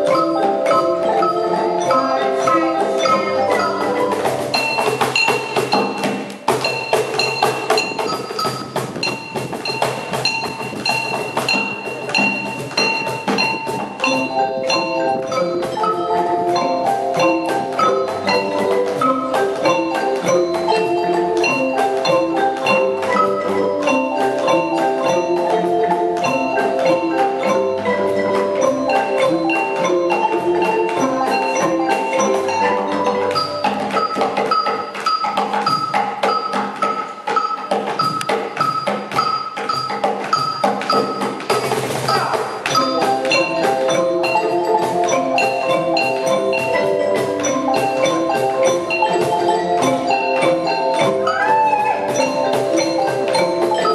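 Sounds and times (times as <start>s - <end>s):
cajon strokes: 0.0s - 53.9s
marimba and xylophone playing: 0.0s - 53.9s.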